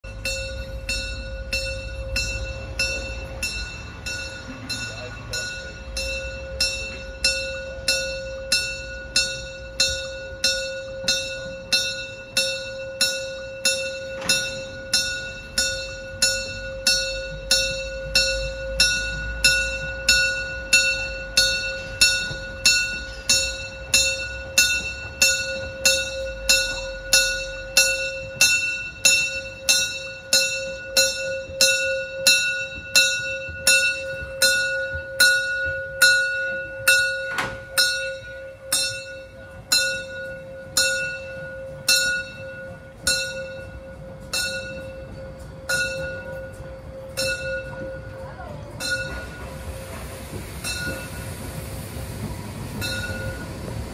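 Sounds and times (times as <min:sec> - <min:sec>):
low rumble of moving train: 0:00.0 - 0:53.9
railway crossing bell ringing: 0:00.0 - 0:53.9.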